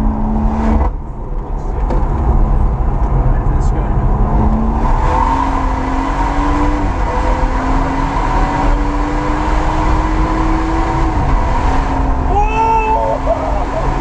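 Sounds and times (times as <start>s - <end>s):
car engine accelerating: 0.0s - 14.0s
road and tyre noise: 0.0s - 14.0s.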